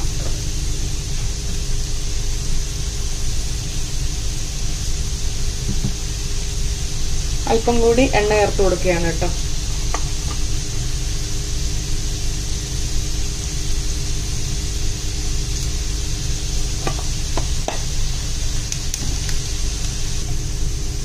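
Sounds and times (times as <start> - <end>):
onions sizzling in oil: 0.0 - 21.0
steady low hum: 0.0 - 21.0.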